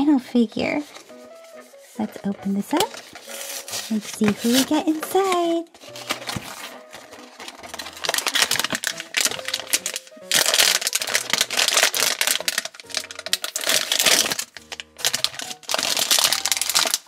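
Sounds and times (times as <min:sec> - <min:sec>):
quiet background music: 0:00.0 - 0:17.0
packaging tearing and rustling: 0:00.8 - 0:17.0.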